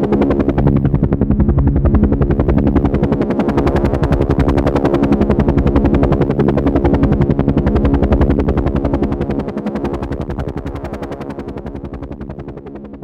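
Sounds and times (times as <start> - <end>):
helicopter engine hum: 0.0 - 13.0
helicopter rotor chop: 0.0 - 13.0.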